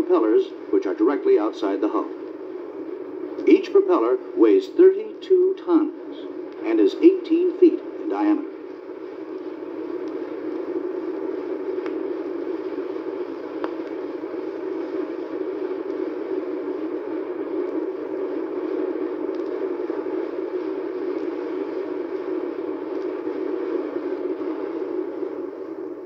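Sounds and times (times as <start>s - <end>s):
propeller shafts droning: 0.0s - 26.0s
vinyl record clicks: 1.7s - 2.4s, 4.5s - 25.5s.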